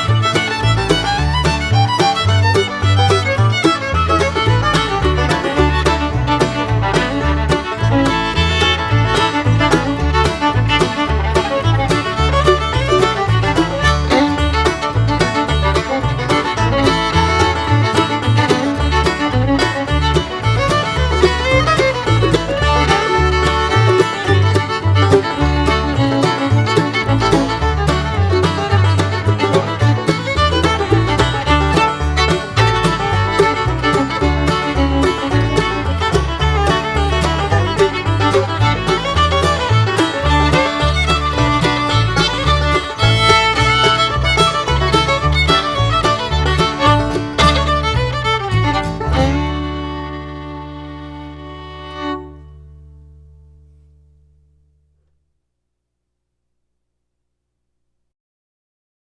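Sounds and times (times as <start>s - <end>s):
banjo: 0.0s - 53.8s
fiddle: 0.0s - 54.0s
guitar: 0.0s - 55.2s.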